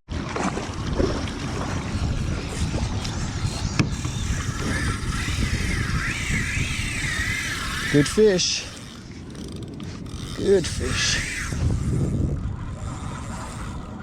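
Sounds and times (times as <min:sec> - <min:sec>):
water around a kayak: 0:00.1 - 0:14.0
wind on microphone: 0:00.1 - 0:14.0
faint wavering whine: 0:00.7 - 0:14.0.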